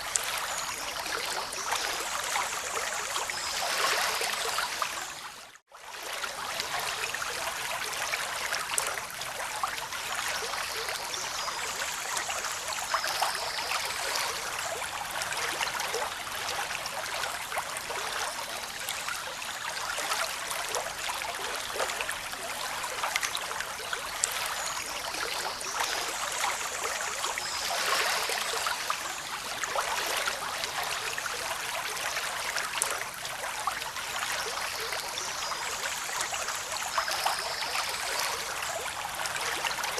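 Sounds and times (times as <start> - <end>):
running water babbling: 0.0 - 39.9.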